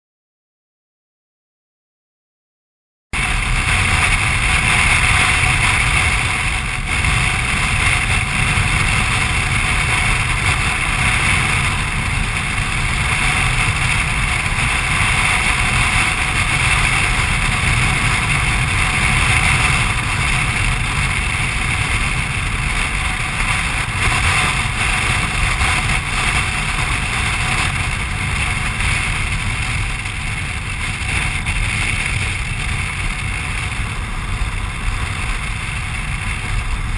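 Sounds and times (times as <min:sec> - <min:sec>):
motorcycle engine cruising: 0:03.2 - 0:36.9
wind and road noise: 0:03.2 - 0:36.9.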